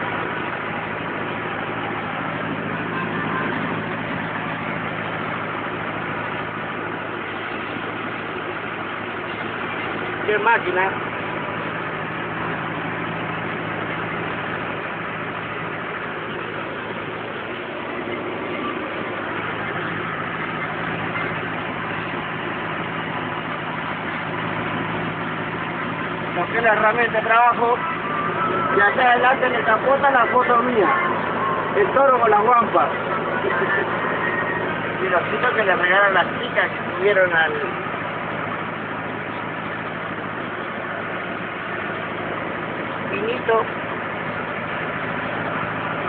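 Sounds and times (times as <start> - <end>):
pickup truck engine running: 0.0 - 46.0
road noise hum: 0.0 - 46.0.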